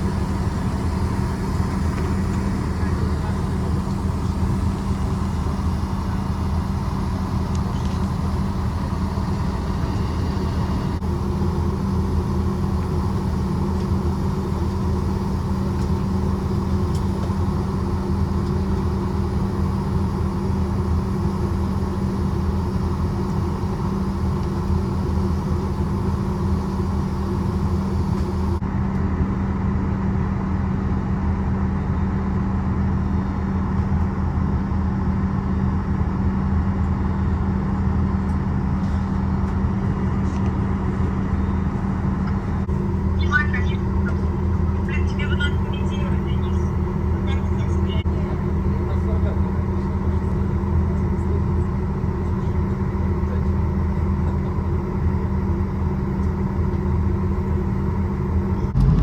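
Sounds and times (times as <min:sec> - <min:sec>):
vehicle engine droning: 0:00.0 - 0:28.6, 0:36.6 - 0:59.0.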